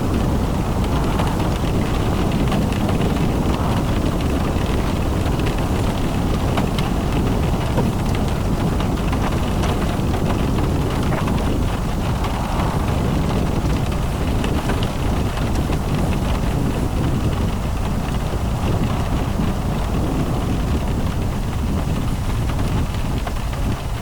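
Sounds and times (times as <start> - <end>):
car road and wind noise: 0.0 - 24.0
wind buffeting microphone: 0.0 - 24.0
raindrop ticks: 0.1 - 23.9.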